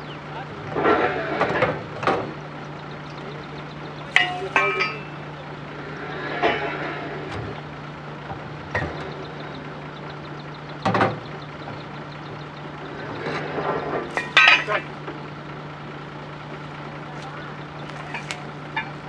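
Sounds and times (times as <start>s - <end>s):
drilling rig droning: 0.0s - 7.8s, 8.7s - 19.0s.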